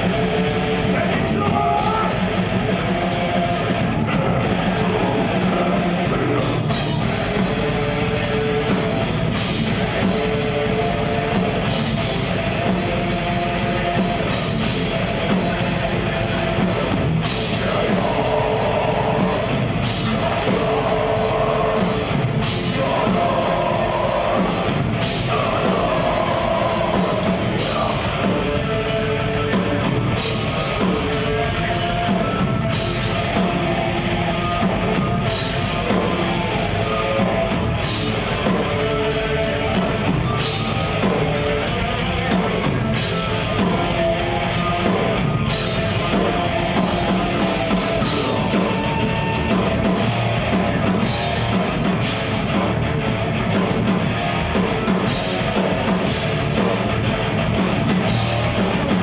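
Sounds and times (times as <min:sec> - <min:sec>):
metal band playing: 0:00.0 - 0:59.0.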